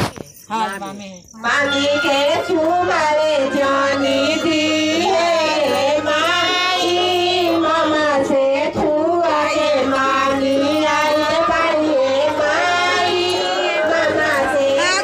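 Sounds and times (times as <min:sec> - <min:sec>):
woman singing: 0:01.4 - 0:15.0.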